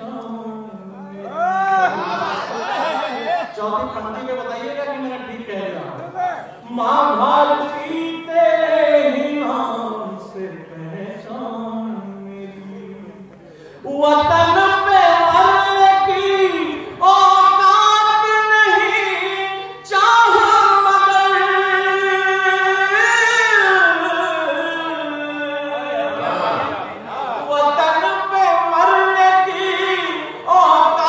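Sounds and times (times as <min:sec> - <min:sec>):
man singing into microphone: 0:00.0 - 0:01.9, 0:06.6 - 0:26.5, 0:27.4 - 0:31.0.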